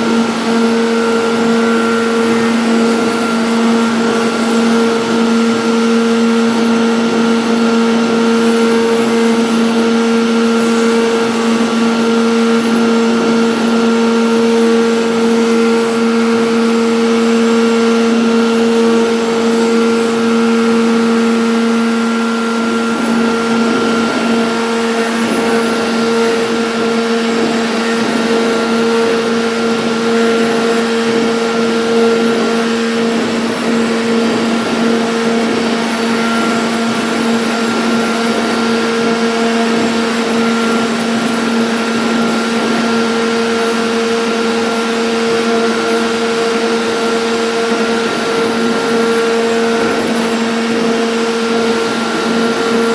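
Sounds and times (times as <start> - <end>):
router cutting noise: 0.0 - 52.9
router spindle motor whine: 0.0 - 52.9.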